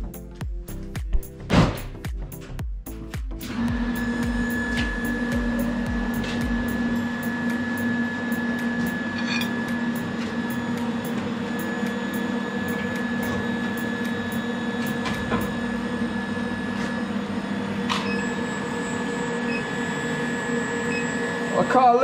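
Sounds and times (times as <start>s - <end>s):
workshop machinery hum: 0.0s - 22.0s
high whine: 3.0s - 22.0s.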